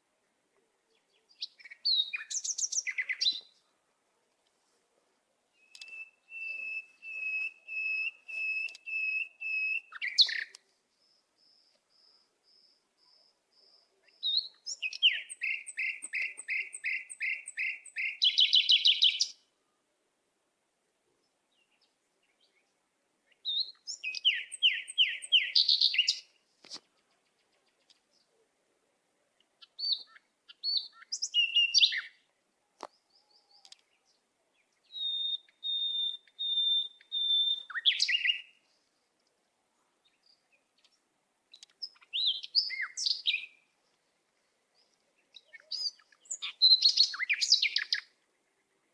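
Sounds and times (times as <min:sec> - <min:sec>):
bird song with whistled notes: 0:00.9 - 0:03.6, 0:05.5 - 0:19.5, 0:21.5 - 0:28.3, 0:29.6 - 0:38.8, 0:40.0 - 0:43.8, 0:44.7 - 0:48.9.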